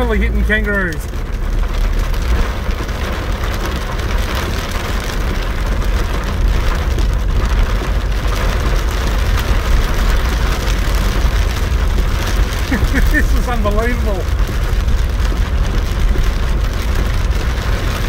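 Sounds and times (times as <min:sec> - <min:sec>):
car engine rumbling: 0:00.0 - 0:18.0
heavy rain on car roof: 0:00.0 - 0:18.0.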